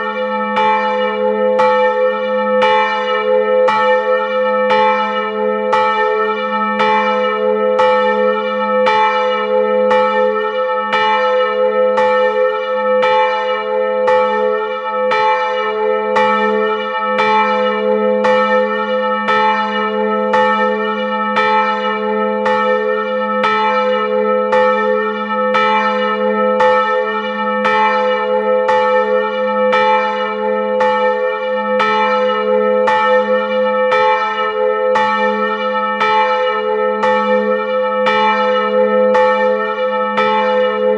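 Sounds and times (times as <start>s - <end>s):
church bell ringing: 0.0s - 40.9s.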